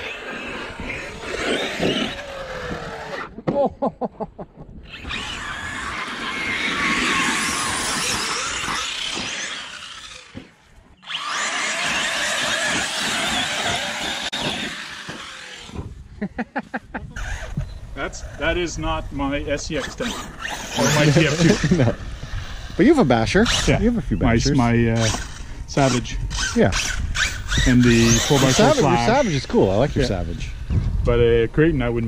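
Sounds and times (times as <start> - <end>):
electric motors whining: 0.0 - 3.4, 4.8 - 16.0, 19.6 - 30.8.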